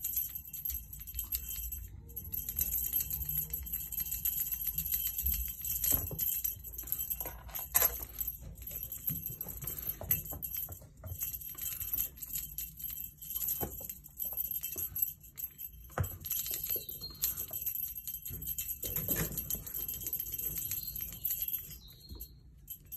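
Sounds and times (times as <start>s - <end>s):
toy jingling: 0.0s - 22.9s.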